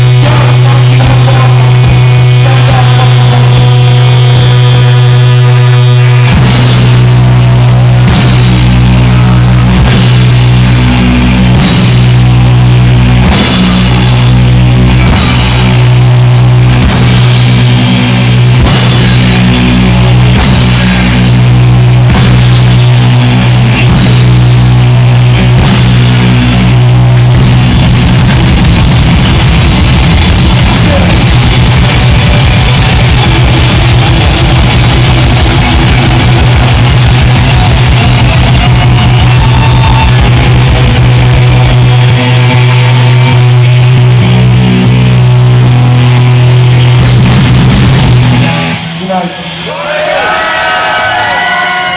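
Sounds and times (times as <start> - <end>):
punk rock band playing: 0.0 - 51.9.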